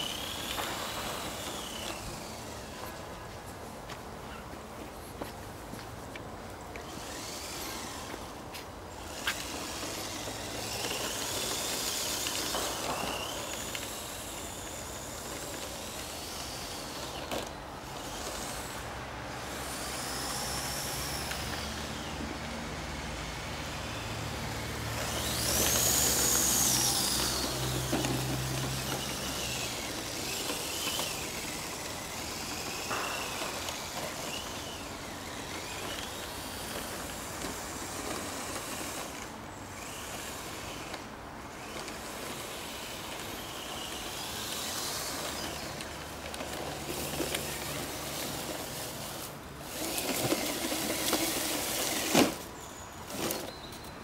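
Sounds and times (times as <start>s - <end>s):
electric motor and gears whining: 0.0s - 54.0s.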